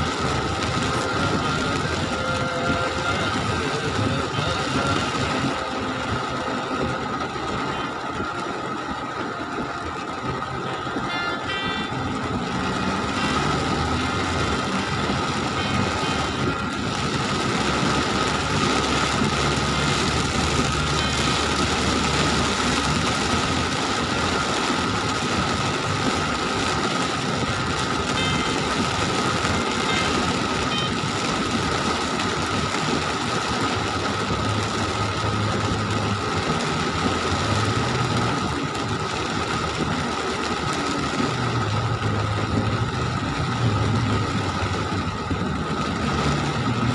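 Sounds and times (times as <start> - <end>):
car engine humming: 0.0 - 46.9
heavy rain on car roof: 0.0 - 46.9
tyres running through water: 0.0 - 46.9.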